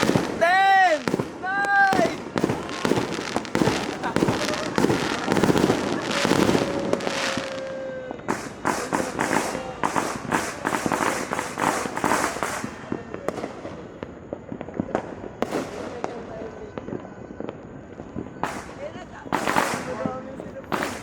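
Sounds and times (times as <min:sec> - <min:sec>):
fireworks and firecrackers bangs: 0:00.0 - 0:21.0.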